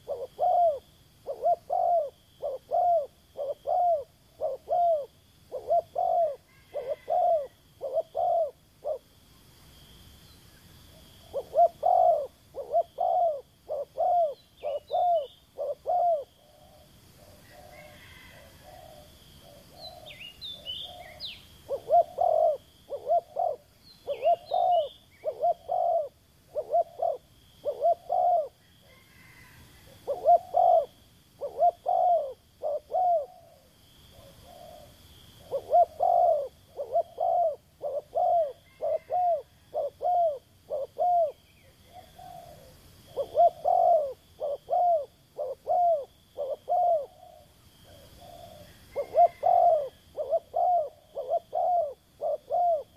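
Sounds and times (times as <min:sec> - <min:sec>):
dove cooing: 0:00.0 - 0:09.1, 0:11.2 - 0:52.9.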